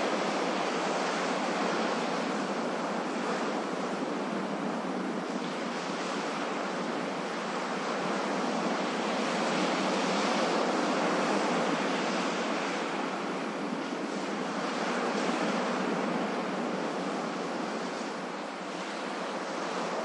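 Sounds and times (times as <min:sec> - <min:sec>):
ocean waves washing: 0:00.0 - 0:20.0.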